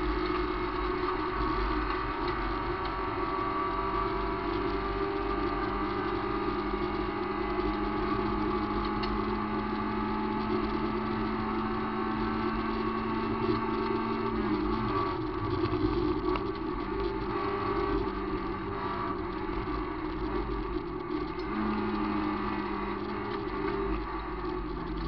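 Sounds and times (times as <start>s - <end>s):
dirt road noise: 0.0s - 25.0s
rally car engine under load: 0.0s - 25.0s.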